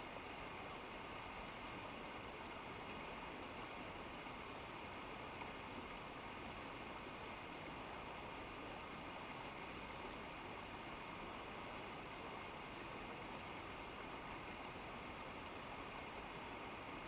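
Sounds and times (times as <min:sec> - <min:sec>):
mountain river rushing: 0:00.0 - 0:17.0.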